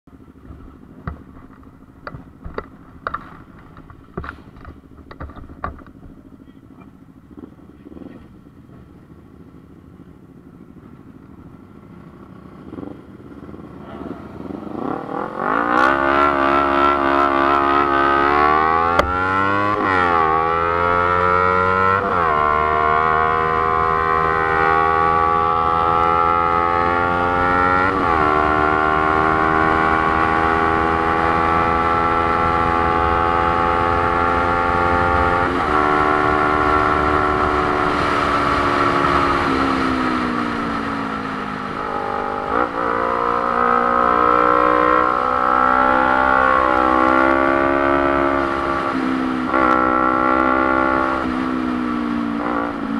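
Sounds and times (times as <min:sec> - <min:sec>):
motorcycle engine shifting gears: 0:00.1 - 0:52.9.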